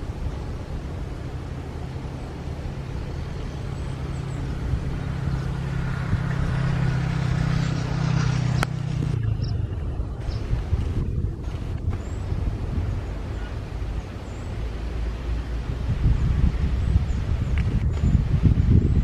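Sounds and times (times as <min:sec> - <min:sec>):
jet engines passing: 0:00.0 - 0:19.0.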